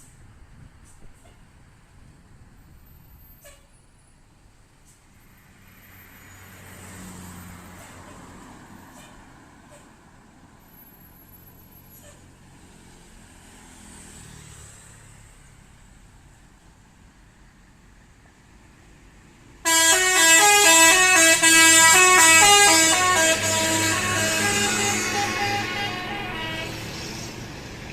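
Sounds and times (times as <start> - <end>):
vehicles passing: 0.0 - 27.9.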